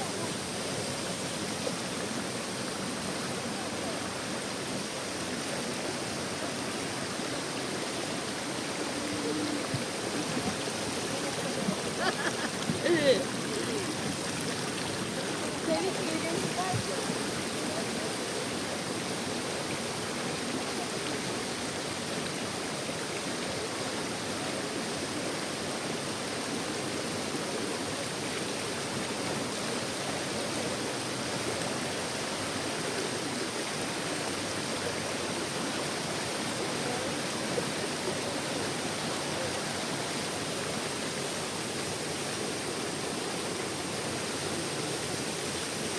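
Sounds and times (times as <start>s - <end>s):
waterfall splashing over rock: 0.0s - 45.9s.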